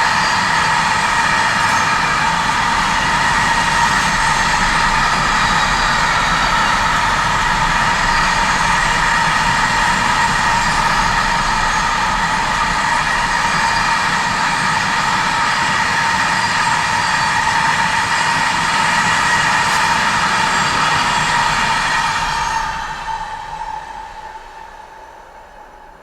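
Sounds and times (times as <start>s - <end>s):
high whine: 0.0s - 26.0s
train rolling noise: 0.0s - 26.0s.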